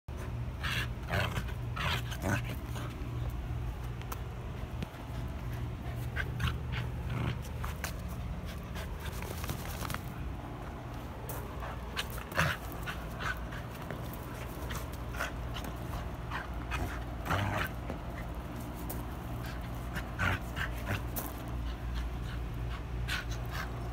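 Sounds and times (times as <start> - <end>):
dog panting: 0.1 - 23.9.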